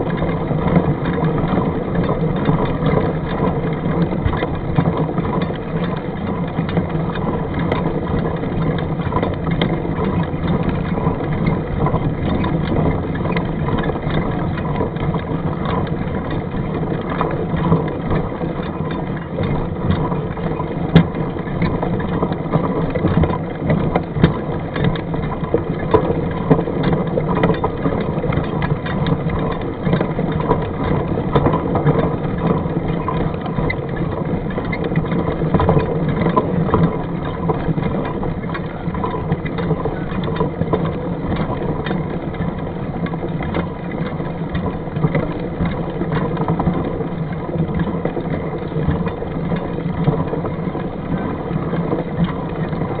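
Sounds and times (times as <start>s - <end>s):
bike rattles and knocks: 0.0s - 53.0s
wind and rolling noise: 0.0s - 53.0s.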